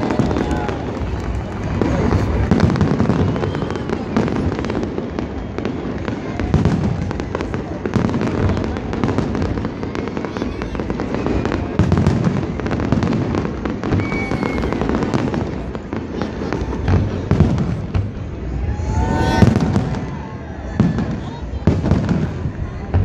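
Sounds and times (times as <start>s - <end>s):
firework shells booming: 0.0s - 23.0s
fireworks crackling: 0.0s - 23.0s.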